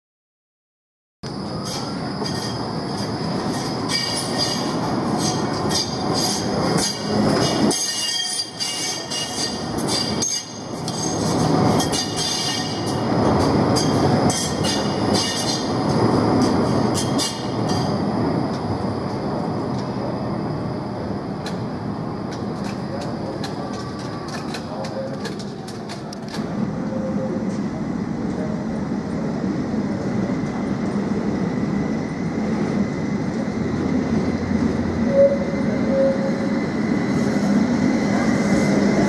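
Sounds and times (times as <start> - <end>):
tram running rumble: 1.2 - 39.0
tram wheels squealing on rails: 1.3 - 28.6, 29.7 - 39.0.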